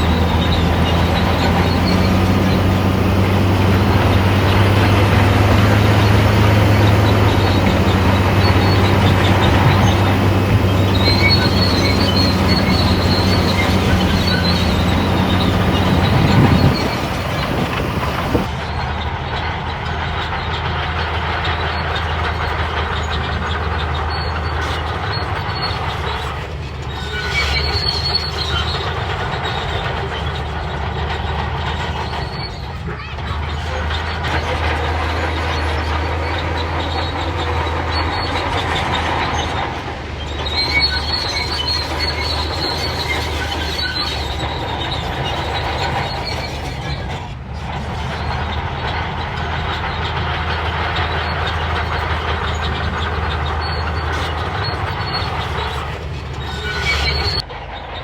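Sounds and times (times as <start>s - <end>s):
bulldozer diesel engine running: 0.0s - 58.0s
steel tracks squealing and clanking: 0.0s - 58.0s.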